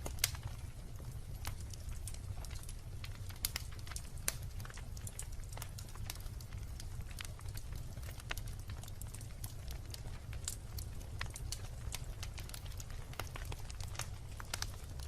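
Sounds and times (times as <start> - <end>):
bonfire crackling and popping: 0.0 - 15.0
low fire rumble: 0.0 - 15.0.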